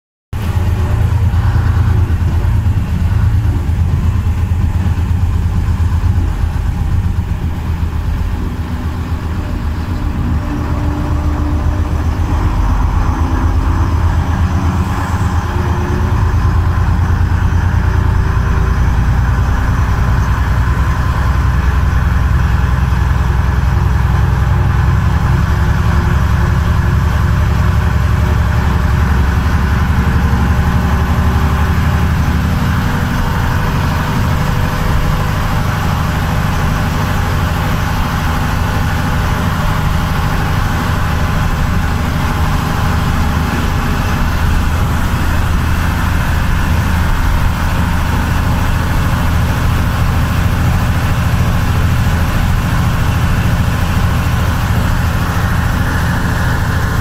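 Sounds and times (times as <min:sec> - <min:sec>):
heavy vehicle engine running: 0:00.3 - 0:57.0.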